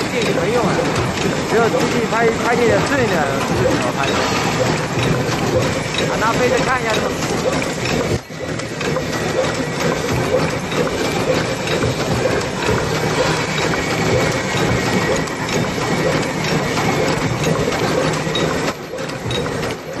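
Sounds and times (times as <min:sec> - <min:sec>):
paper cup machine clattering: 0:00.0 - 0:20.0.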